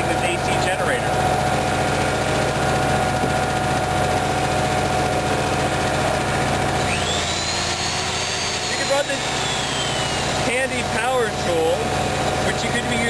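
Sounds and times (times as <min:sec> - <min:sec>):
generator engine droning: 0:00.0 - 0:13.0.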